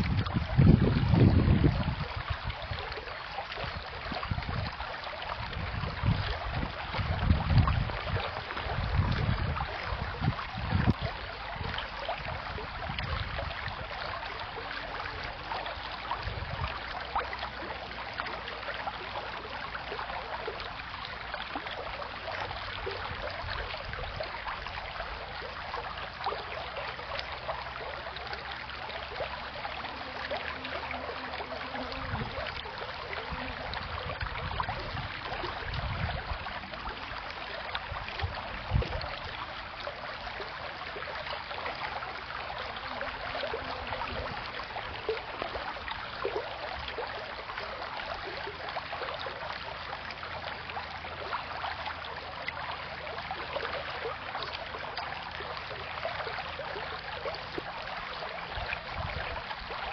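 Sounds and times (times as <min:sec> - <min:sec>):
creek water rippling over pebbles: 0:00.0 - 0:59.9.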